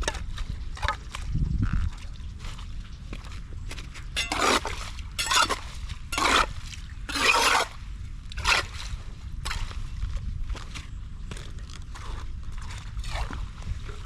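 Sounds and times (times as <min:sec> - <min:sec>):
low steady rumble: 0:00.0 - 0:14.0
water splashing and sloshing: 0:00.0 - 0:14.0.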